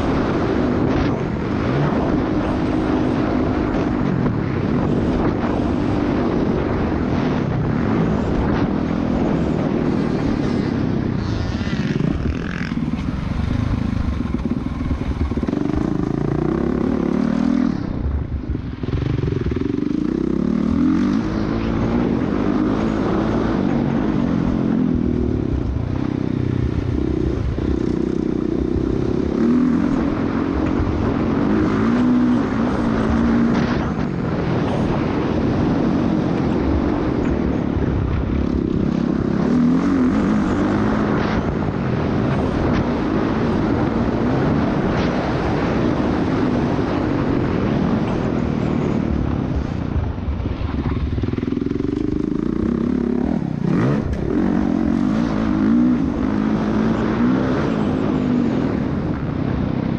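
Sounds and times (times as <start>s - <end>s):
dirt bike engine revving: 0.0s - 59.7s.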